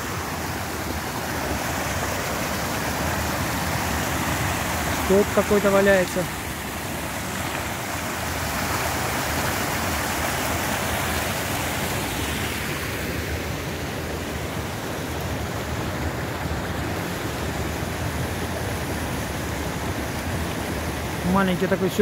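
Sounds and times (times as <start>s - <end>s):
stream rushing over boulders: 0.0s - 22.0s.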